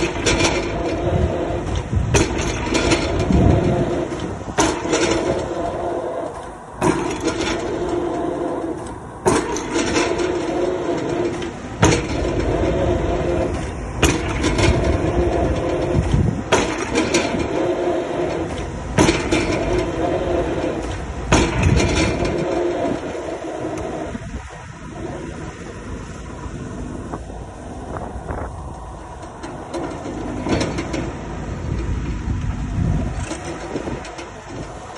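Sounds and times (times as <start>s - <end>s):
excavator engine running: 0.0s - 34.9s.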